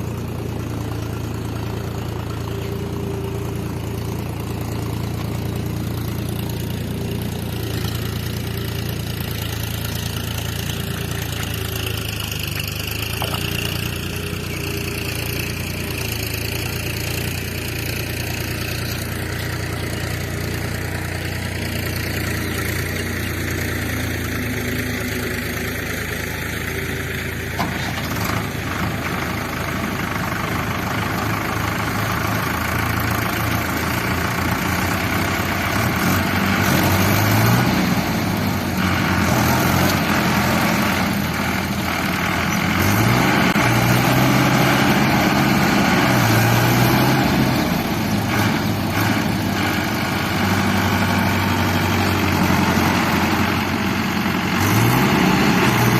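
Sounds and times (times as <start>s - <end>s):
diesel engine running and revving: 0.0s - 55.9s.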